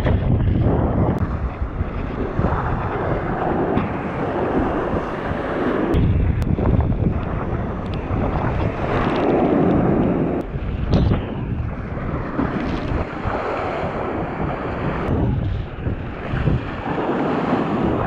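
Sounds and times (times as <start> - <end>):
water rushing and splashing: 0.0 - 18.0
wind buffeting microphone: 0.0 - 18.0.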